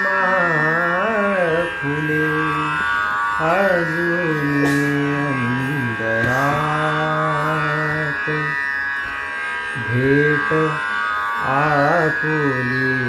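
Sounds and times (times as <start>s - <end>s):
man singing: 0.0s - 8.7s, 9.8s - 13.0s
steady drone accompaniment: 0.0s - 13.0s.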